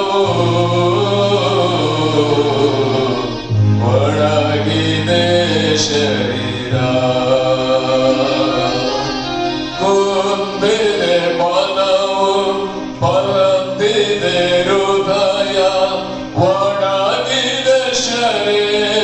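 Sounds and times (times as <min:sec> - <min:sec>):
low drone: 0:00.0 - 0:19.0
person singing chant-like melody: 0:00.0 - 0:19.0.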